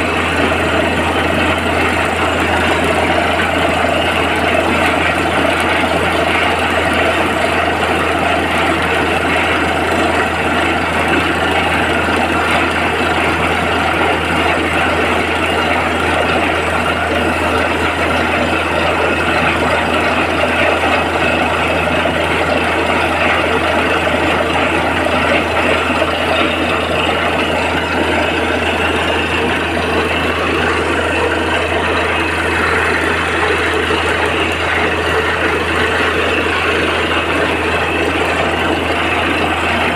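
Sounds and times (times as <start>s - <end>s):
drilling rig engine drone: 0.0s - 39.9s.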